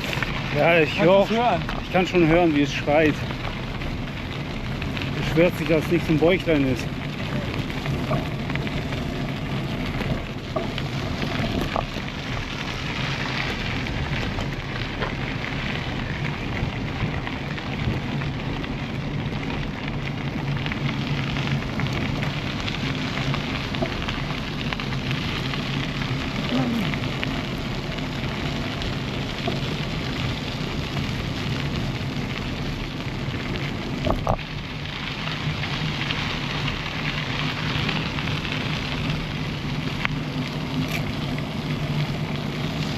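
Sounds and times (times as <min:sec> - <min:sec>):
bicycle tyres rolling: 0:00.0 - 0:42.9.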